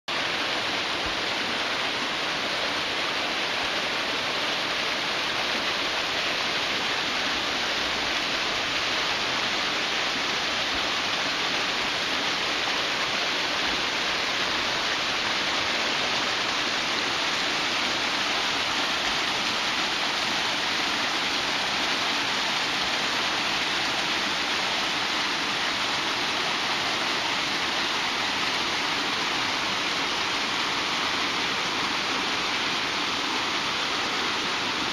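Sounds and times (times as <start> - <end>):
waterfall rushing over rocks: 0.1 - 34.9.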